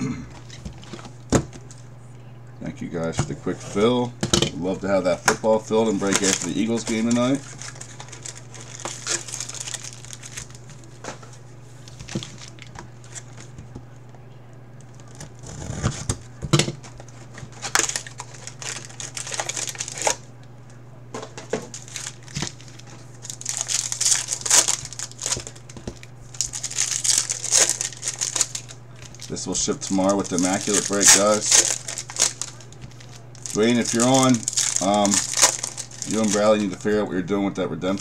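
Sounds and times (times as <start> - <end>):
low steady hum: 0.0 - 38.0
foil wrappers crinkling: 0.3 - 1.9, 2.9 - 13.7, 14.8 - 38.0.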